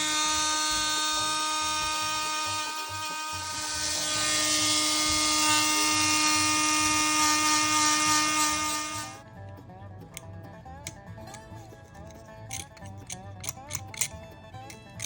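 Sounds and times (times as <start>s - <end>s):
rotary tool grinding metal: 0.0s - 9.2s, 10.1s - 15.0s.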